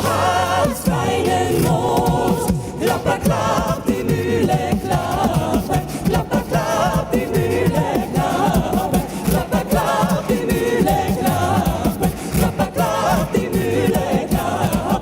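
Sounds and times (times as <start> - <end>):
vocal group singing in harmony: 0.0 - 15.0
vocal percussion beat: 0.0 - 15.0.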